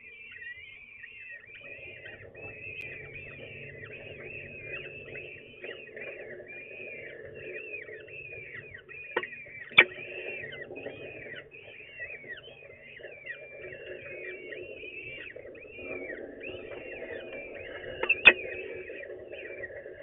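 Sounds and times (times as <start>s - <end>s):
falcon chicks chirping: 0.0s - 20.0s.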